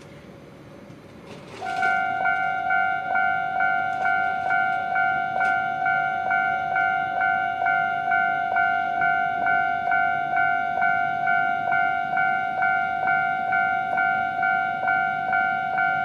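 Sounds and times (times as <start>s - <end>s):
electronic bell ringing: 1.6s - 16.0s
steady ringing tone: 1.6s - 16.0s.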